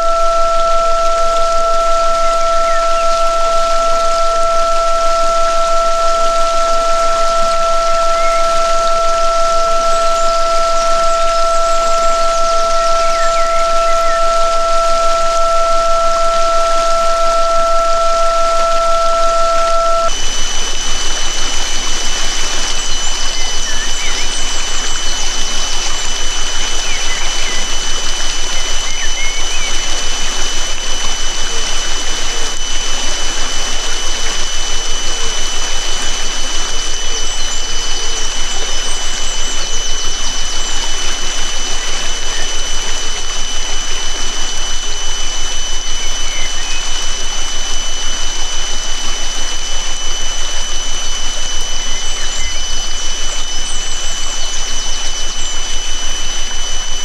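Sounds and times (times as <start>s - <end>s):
faint bird chirps: 0.0s - 57.0s
high electronic sine tone: 0.0s - 57.0s
stream water running: 0.0s - 57.0s.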